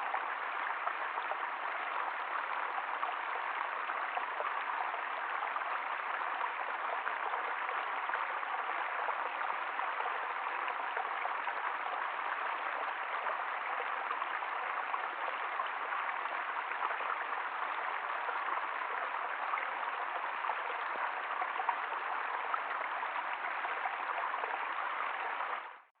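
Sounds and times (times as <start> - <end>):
water flowing: 0.0 - 25.9.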